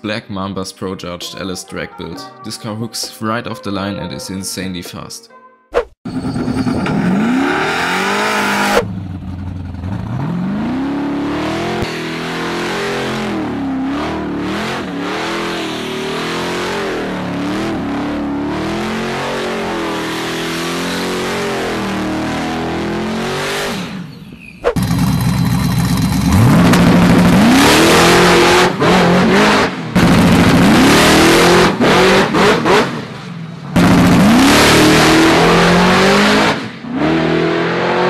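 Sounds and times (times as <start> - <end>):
car engine revving: 6.2 - 38.0
car engine accelerating hard: 6.5 - 24.2, 24.8 - 38.0.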